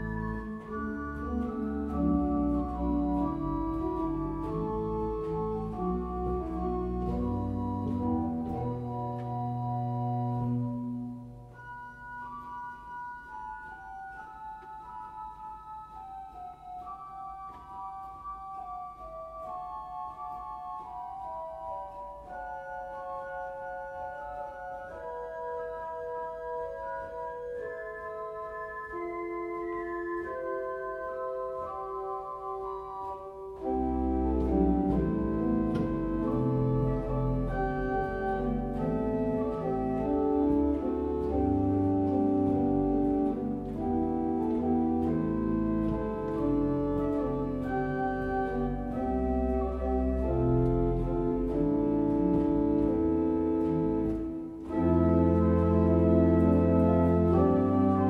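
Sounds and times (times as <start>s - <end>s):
pipe organ playing sustained notes: 0.0s - 58.0s.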